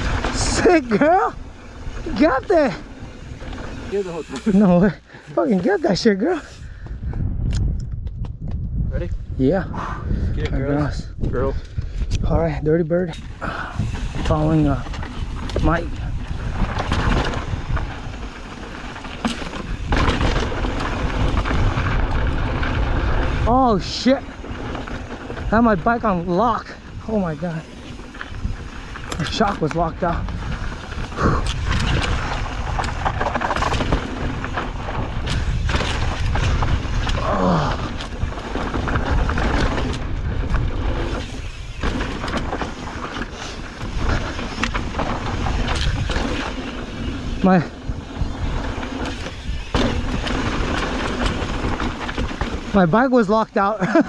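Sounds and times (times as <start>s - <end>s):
bike rattling: 0.0s - 6.6s, 13.2s - 54.0s
wind buffeting microphone: 6.5s - 53.6s.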